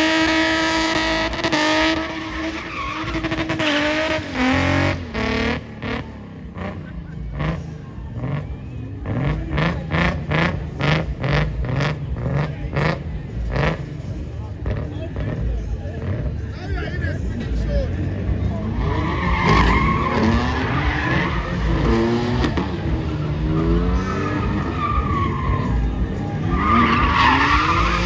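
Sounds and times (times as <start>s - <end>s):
car engine revving: 0.0s - 28.0s
tyres skidding: 0.0s - 28.0s.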